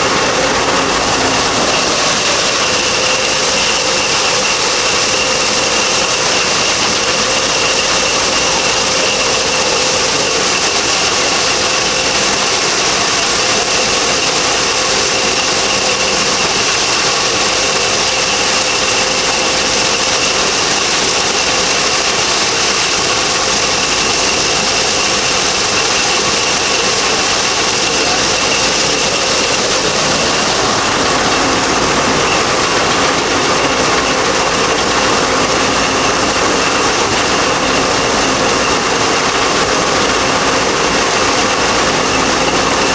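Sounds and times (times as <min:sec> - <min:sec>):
high mechanical whine: 0:00.0 - 0:42.9
threshing machine running: 0:00.0 - 0:42.9.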